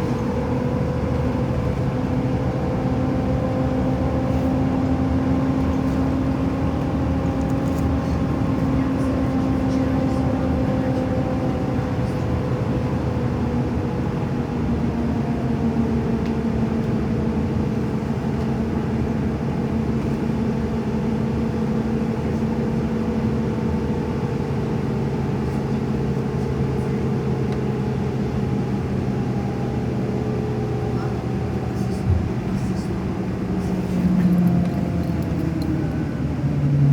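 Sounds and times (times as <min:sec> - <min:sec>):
road noise: 0:00.0 - 0:36.9
vehicle engine hum: 0:00.0 - 0:36.9.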